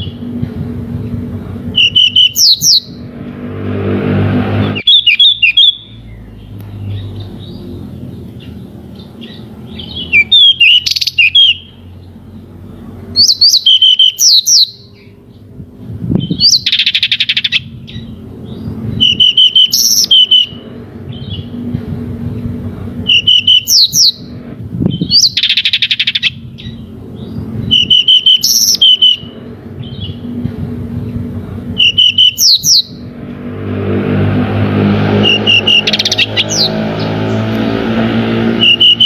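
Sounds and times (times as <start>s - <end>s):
vehicle noise: 0.0s - 39.0s
bird chirping and trilling: 1.7s - 3.2s, 3.9s - 15.5s, 16.1s - 21.6s, 23.1s - 30.3s, 31.8s - 33.2s, 34.2s - 37.5s, 38.3s - 39.0s.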